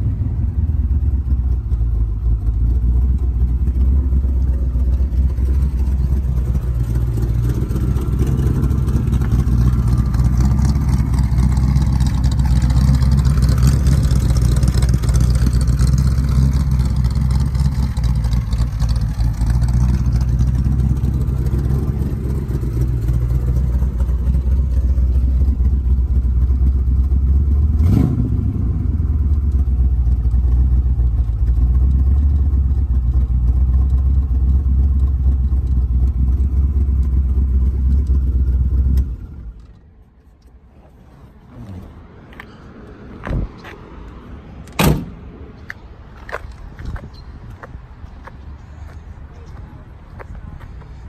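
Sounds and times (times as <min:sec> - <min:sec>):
car engine idling: 0:00.0 - 0:43.8.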